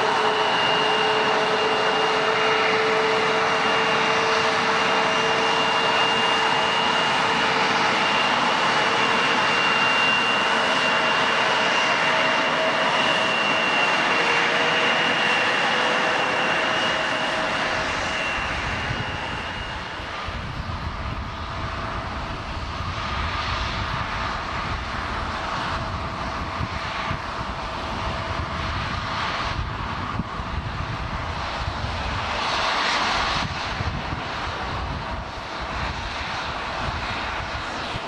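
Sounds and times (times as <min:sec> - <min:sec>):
jet engines roaring and whining: 0:00.0 - 0:38.0.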